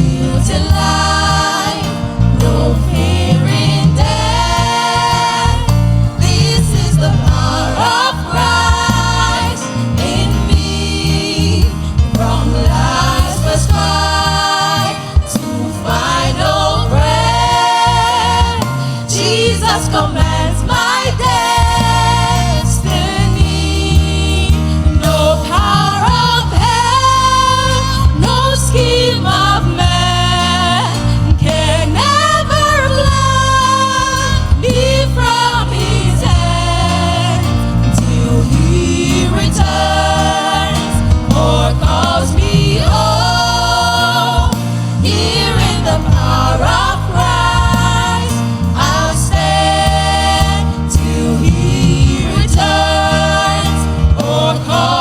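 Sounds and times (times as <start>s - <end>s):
band accompaniment: 0.0s - 55.0s
voices singing worship song: 0.0s - 55.0s.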